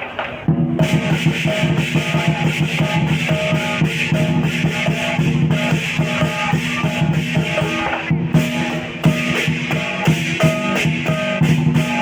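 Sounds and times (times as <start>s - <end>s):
cymbals clashing: 0.0s - 12.0s
drum beating fast: 0.4s - 12.0s.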